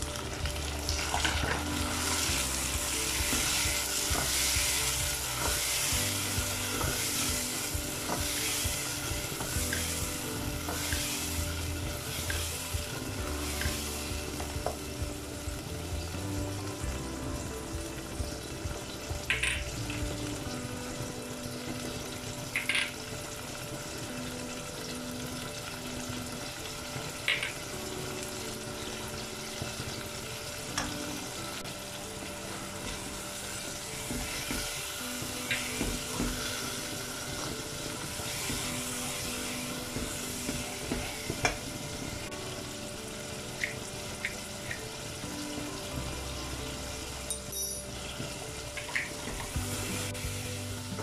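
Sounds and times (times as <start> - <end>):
tomatoes sizzling in oil: 0.0 - 51.0.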